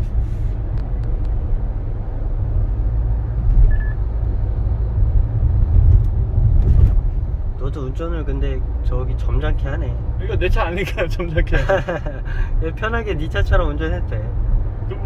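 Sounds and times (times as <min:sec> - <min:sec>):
road and engine rumble in car cabin: 0:00.0 - 0:15.0.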